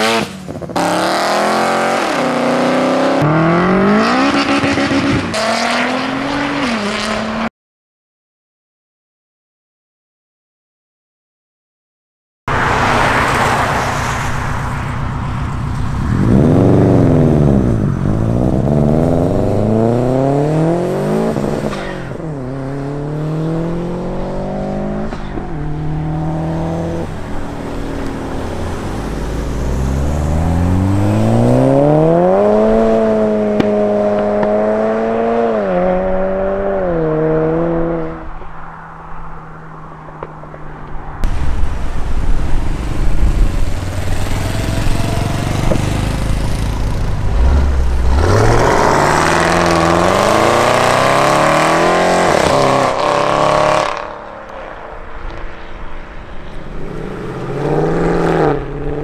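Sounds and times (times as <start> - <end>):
car engines revving: 0.0 - 7.5, 12.5 - 59.0.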